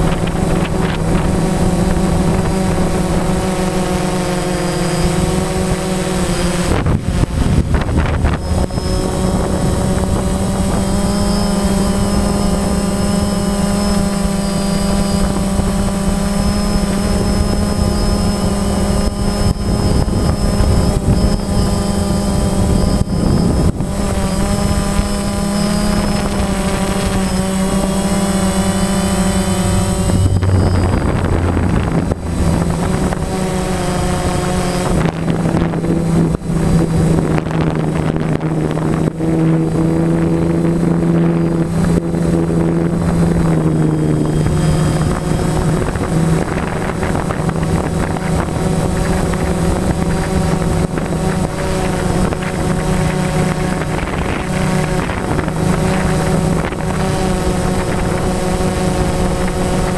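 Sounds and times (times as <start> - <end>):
drone propellers whining: 0.0 - 59.9
wind hitting microphone: 0.0 - 59.9.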